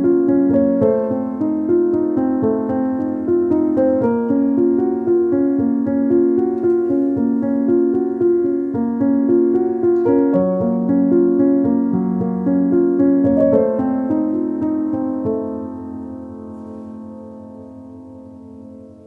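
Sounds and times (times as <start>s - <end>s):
keyboard melody: 0.0s - 19.0s.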